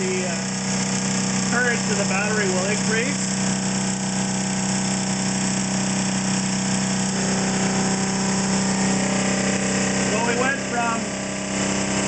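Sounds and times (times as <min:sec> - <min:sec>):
generator low hum: 0:00.0 - 0:12.0.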